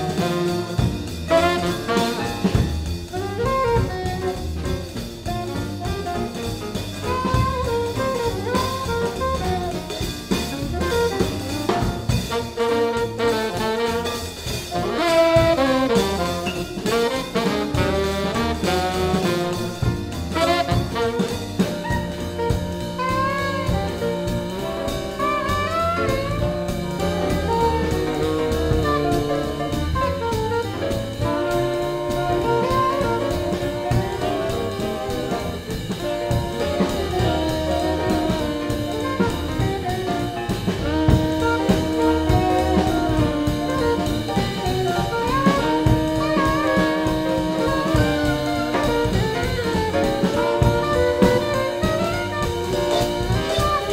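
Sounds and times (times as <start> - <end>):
double bass: 0.0 - 53.9
drum kit: 0.0 - 53.9
saxophones: 0.0 - 53.9
trombone: 0.0 - 53.9
trumpet: 0.0 - 53.9.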